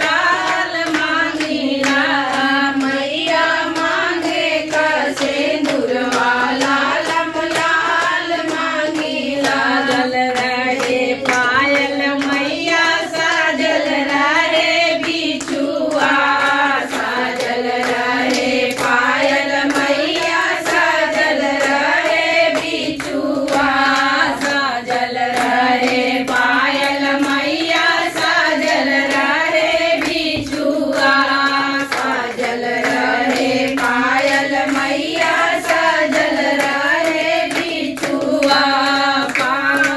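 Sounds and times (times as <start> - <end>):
hand claps: 0.0 - 39.9
women singing folk song: 0.0 - 39.9.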